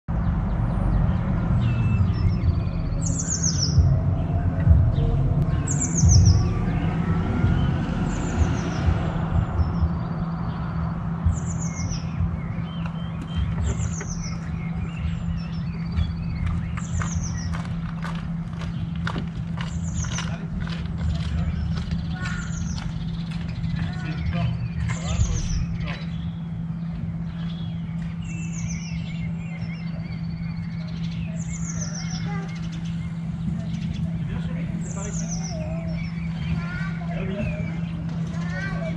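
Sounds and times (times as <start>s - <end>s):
songbird singing: 0.1s - 38.9s
steady low hum: 0.1s - 38.9s
bird chirps: 0.3s - 38.9s.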